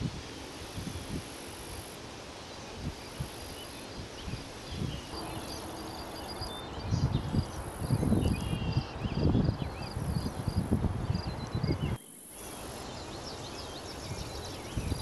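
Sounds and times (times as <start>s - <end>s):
insects trilling: 0.1s - 15.0s.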